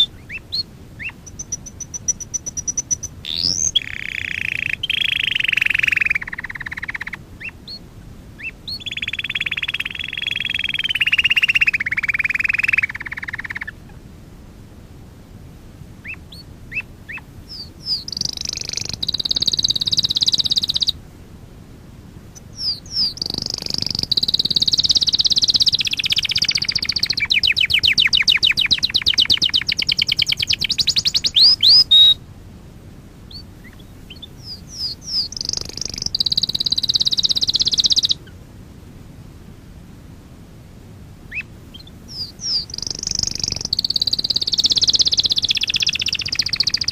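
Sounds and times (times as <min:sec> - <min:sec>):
canary singing trills: 0:00.0 - 0:14.0, 0:16.0 - 0:21.0, 0:22.3 - 0:32.2, 0:33.3 - 0:38.4, 0:41.3 - 0:46.9.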